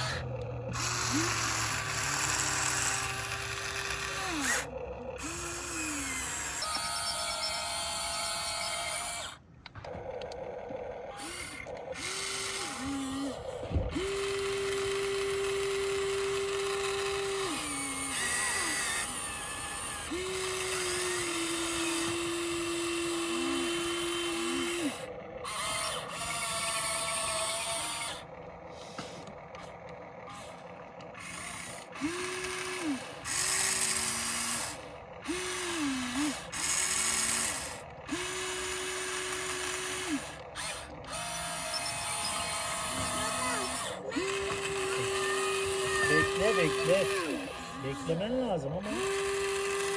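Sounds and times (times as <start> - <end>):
small electric motors whining: 0.0 - 49.9.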